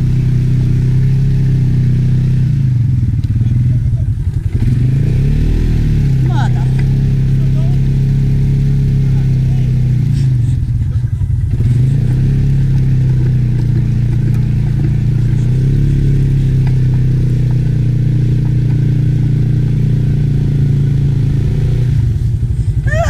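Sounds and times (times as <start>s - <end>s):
atv engine running under load: 0.0s - 23.0s.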